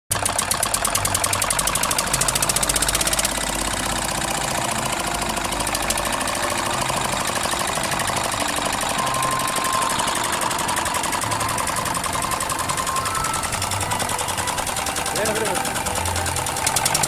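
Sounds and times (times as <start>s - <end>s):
model diesel engine running: 0.1s - 17.0s.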